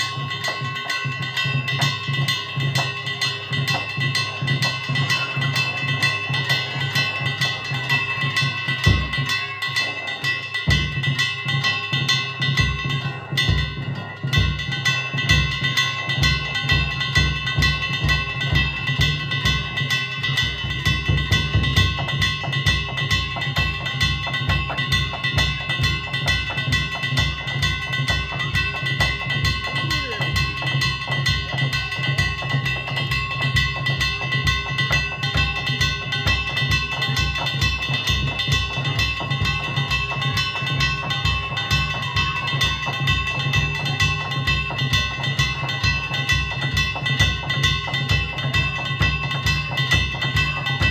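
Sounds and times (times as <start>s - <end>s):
large taiko drum beating: 0.0s - 50.9s
small hand gongs ringing: 0.0s - 50.9s.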